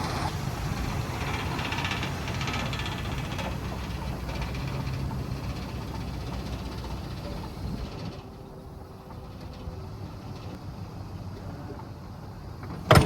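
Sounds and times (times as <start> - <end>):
pickup truck engine idling: 0.0 - 12.6.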